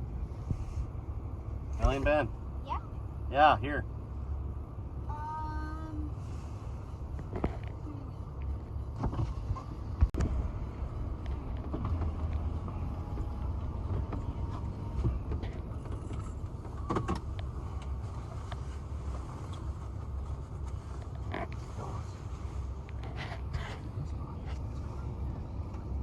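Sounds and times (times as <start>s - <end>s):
car engine rumbling inside cabin: 0.0s - 26.0s.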